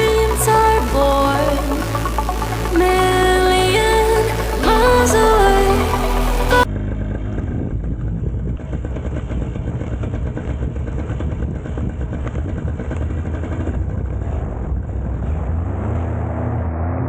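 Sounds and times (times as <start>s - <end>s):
paramotor engine droning: 0.0s - 17.0s.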